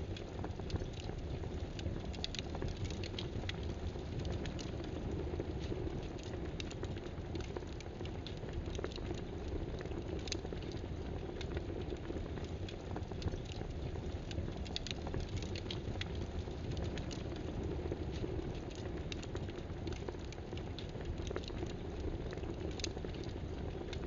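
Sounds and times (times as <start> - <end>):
small irregular clicks: 0.0 - 24.0.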